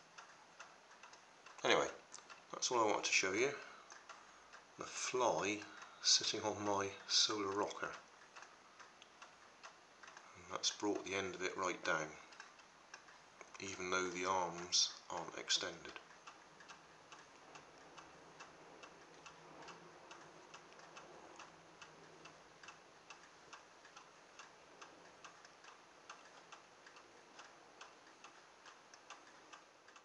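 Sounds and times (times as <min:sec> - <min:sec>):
faint low hum: 0:00.0 - 0:30.0
faint steady ticking: 0:00.0 - 0:30.0.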